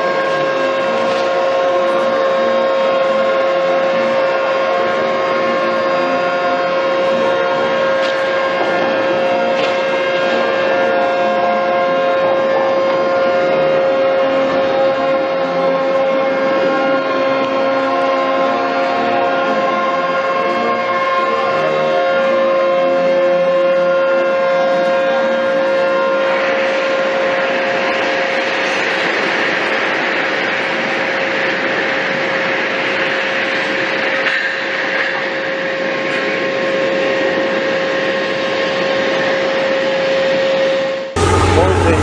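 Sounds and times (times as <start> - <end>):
ship's horns sounding: 0.0 - 42.0.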